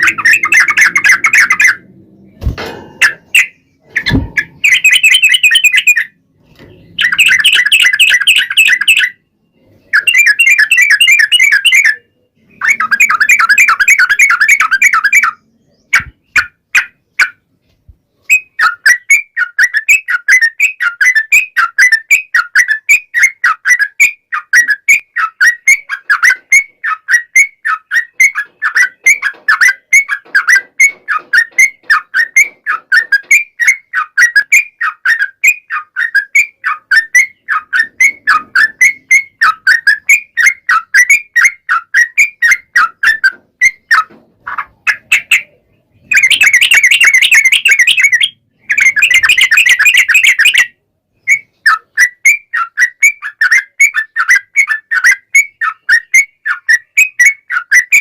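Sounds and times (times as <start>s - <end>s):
bird chattering: 0.0s - 2.0s, 3.0s - 6.2s, 6.8s - 9.2s, 9.8s - 17.4s, 18.2s - 58.0s.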